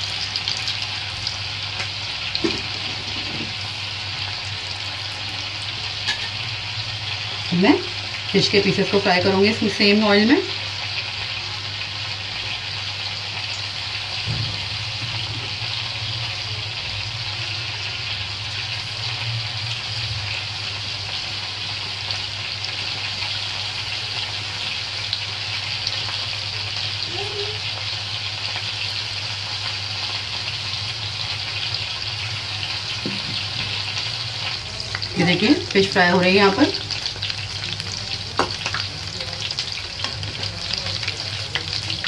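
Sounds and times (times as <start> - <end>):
fish deep-frying in oil: 0.0 - 42.0.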